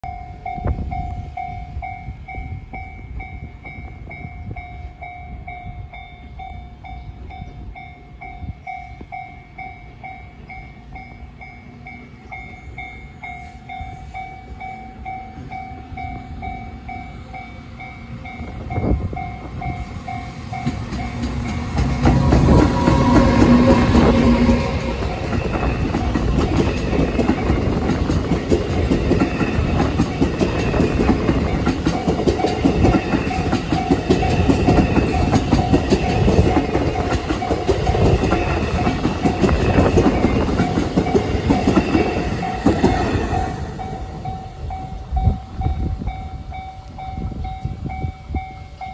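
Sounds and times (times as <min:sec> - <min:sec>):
train passing: 0:00.0 - 0:48.9.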